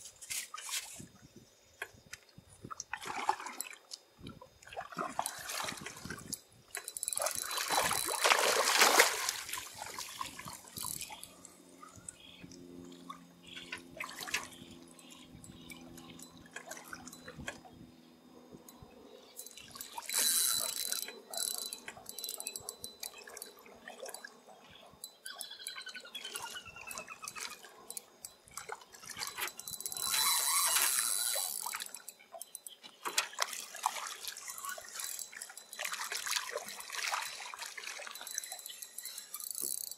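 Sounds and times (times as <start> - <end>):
water lapping around a boat: 2.4 - 17.9, 19.4 - 39.9.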